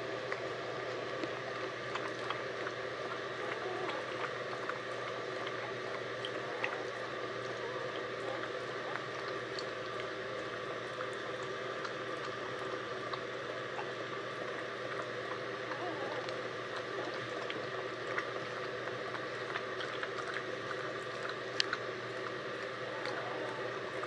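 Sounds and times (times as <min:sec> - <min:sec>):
background hum: 0:00.0 - 0:24.0
puppies suckling: 0:00.0 - 0:24.0
dog licking: 0:00.3 - 0:24.0.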